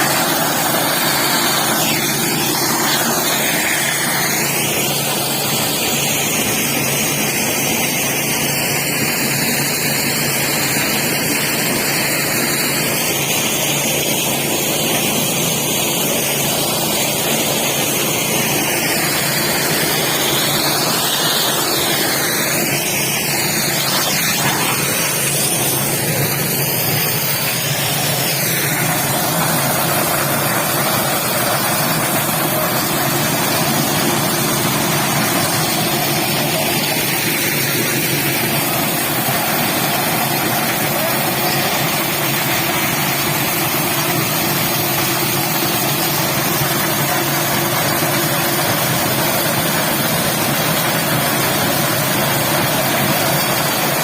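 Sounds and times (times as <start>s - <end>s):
continuous rushing noise: 0.0s - 54.0s
motor running steadily: 0.0s - 54.0s.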